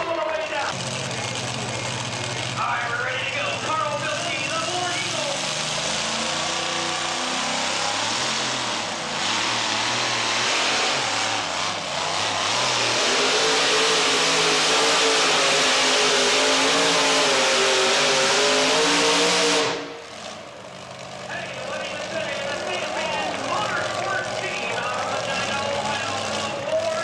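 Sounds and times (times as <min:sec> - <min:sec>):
truck engine under full load: 0:00.0 - 0:27.0.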